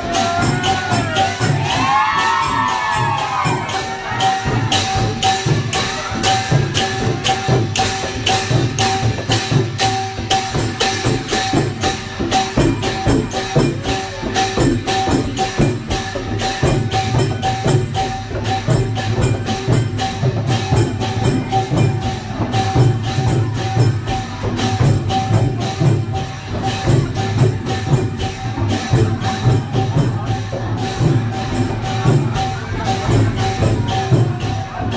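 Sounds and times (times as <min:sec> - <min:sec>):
fast percussion strikes: 0:00.0 - 0:34.9
lively procession music: 0:00.0 - 0:34.9.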